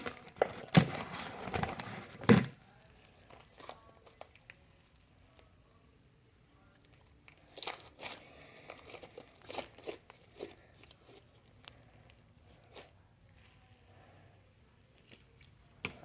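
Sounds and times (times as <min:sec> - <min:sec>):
crinkling and crackling by hand: 0:00.0 - 0:16.0.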